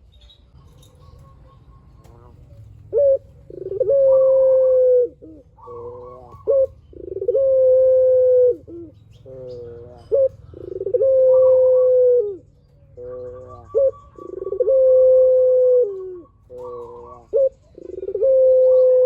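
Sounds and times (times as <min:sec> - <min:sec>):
dove cooing: 0:00.6 - 0:19.0.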